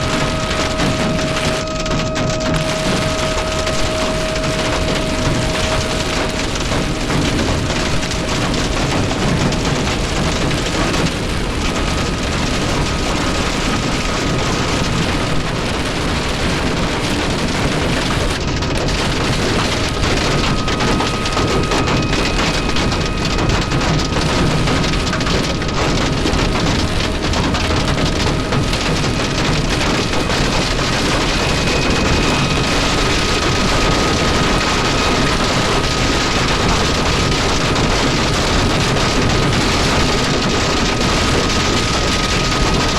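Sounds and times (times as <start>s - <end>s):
storm wind: 0.0s - 42.9s
torrential rain: 0.0s - 42.9s.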